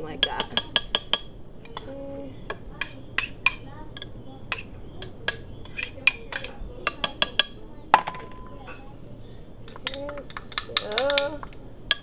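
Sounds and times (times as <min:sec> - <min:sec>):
utensil clinking against bowl: 0:00.0 - 0:01.9, 0:02.5 - 0:08.9, 0:09.7 - 0:12.0.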